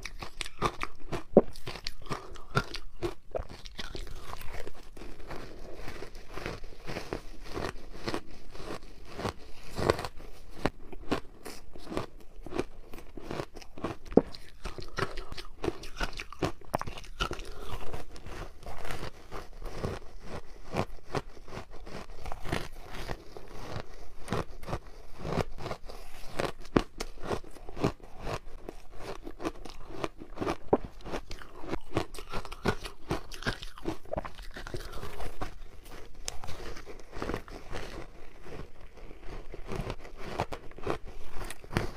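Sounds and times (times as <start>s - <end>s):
teeth crunching ice: 0.0s - 41.9s.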